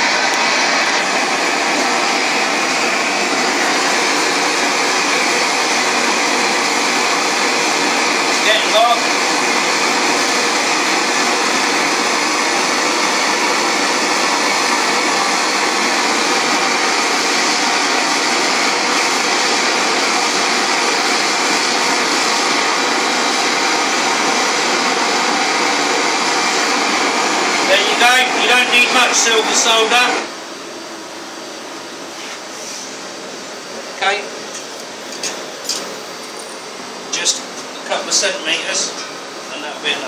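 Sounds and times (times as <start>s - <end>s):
gas torch flame hissing: 0.0s - 30.4s, 32.1s - 40.0s.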